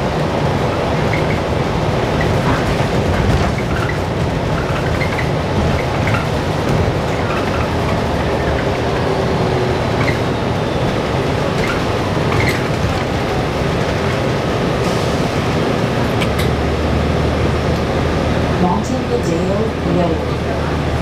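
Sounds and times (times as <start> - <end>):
bus drivetrain rumble: 0.0 - 21.0
road noise: 0.0 - 21.0.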